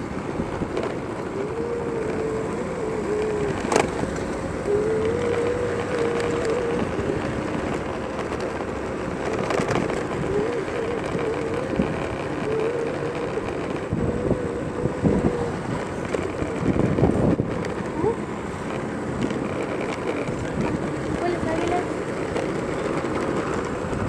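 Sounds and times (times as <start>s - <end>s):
street traffic: 0.0s - 24.0s
wind buffeting microphone: 0.0s - 24.0s.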